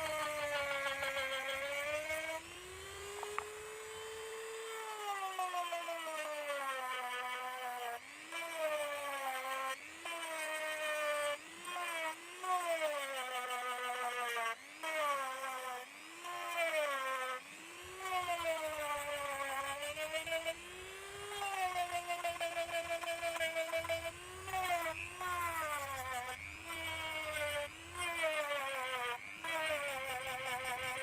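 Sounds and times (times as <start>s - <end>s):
electric drill whining: 0.0s - 31.0s.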